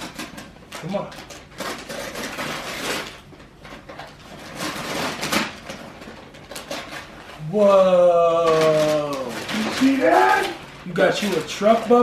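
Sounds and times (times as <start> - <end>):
paper tearing: 0.0 - 3.3, 4.4 - 12.0
wrapping paper rustling: 0.0 - 12.0.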